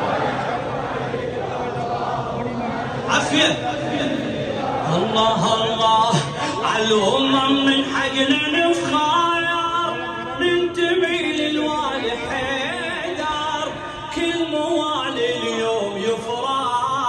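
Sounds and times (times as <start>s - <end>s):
men singing a devotional chant: 0.0s - 17.0s.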